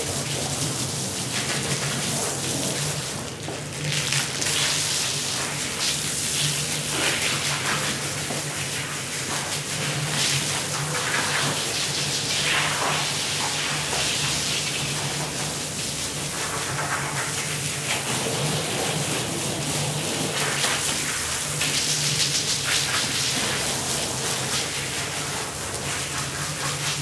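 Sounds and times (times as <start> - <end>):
water spraying onto wet rug: 0.0 - 27.0.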